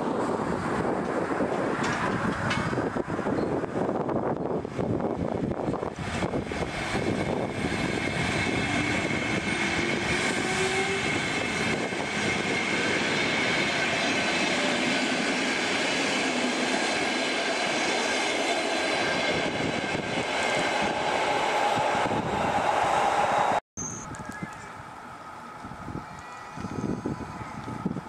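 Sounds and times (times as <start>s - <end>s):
train rail and wheel noise: 0.0s - 28.0s.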